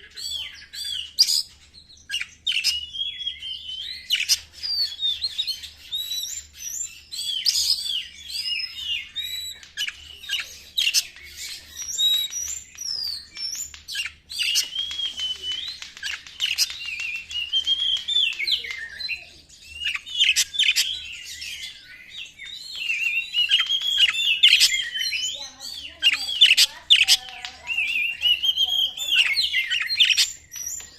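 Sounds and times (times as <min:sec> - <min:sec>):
bird singing fast song: 0:00.0 - 0:30.9.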